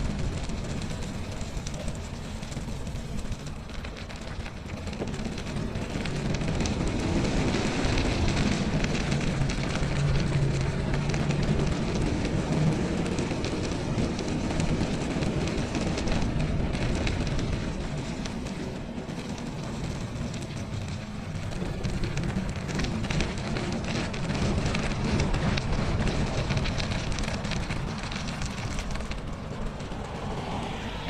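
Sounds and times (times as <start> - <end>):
bicycle riding on snowy trail: 0.0 - 31.0
low hum: 0.0 - 31.0.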